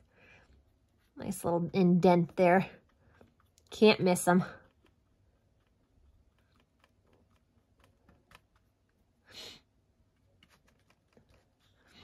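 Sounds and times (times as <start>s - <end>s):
paintbrush tapping and scratching: 0.0s - 9.2s, 10.0s - 12.0s.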